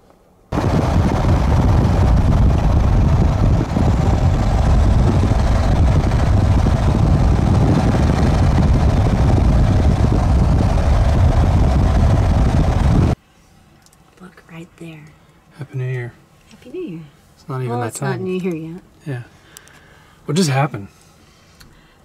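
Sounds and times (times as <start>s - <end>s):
road and engine noise: 0.0s - 21.8s.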